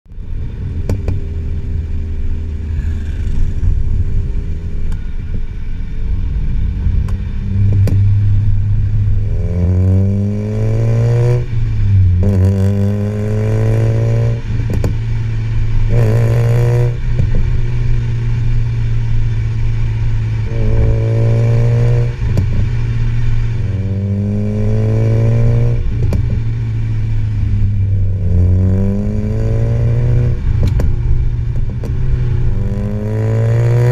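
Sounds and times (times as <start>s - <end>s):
exhaust crackles and pops: 0.1s - 33.9s
rotary engine revving: 2.4s - 5.0s, 6.0s - 33.9s.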